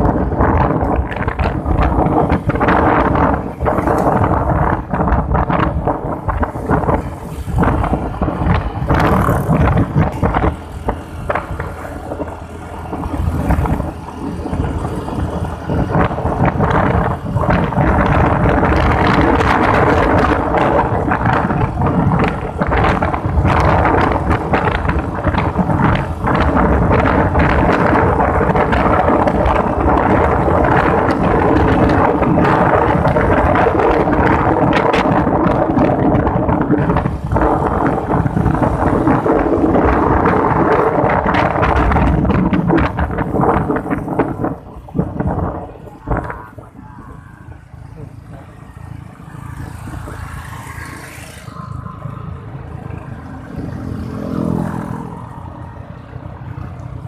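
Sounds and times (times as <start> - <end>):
motorbike engine running: 0.0 - 46.8
wind buffeting microphone: 0.0 - 57.0.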